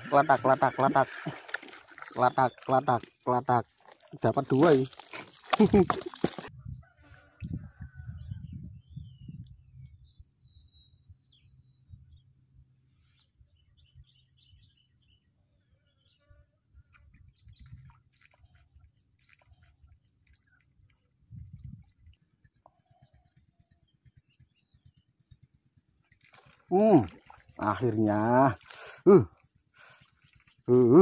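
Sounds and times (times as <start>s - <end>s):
faint birdsong: 0.0s - 5.2s, 6.5s - 31.0s.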